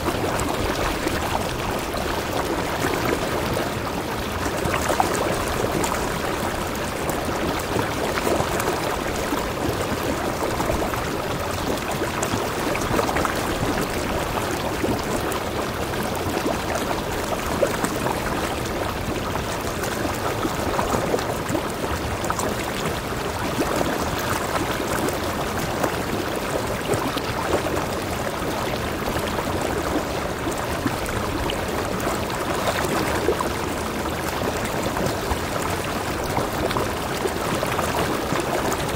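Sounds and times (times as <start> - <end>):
mountain stream rushing over boulders: 0.0 - 38.9.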